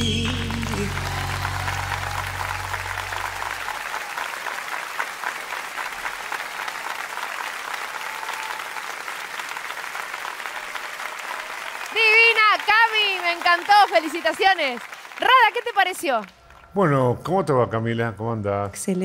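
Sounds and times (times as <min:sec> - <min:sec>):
audience applauding: 0:00.0 - 0:17.3.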